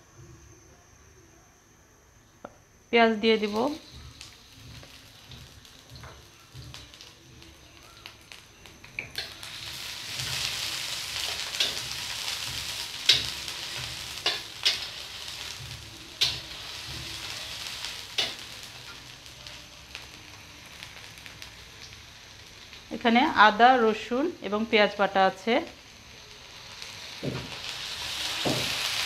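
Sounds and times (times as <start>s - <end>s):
onions sizzling in oil: 3.1s - 29.0s.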